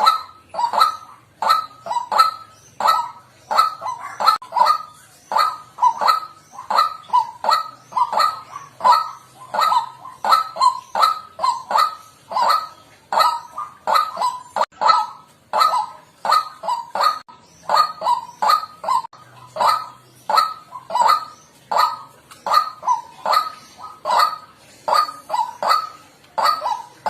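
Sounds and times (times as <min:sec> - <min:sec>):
waterhen calling: 0:00.0 - 0:27.0.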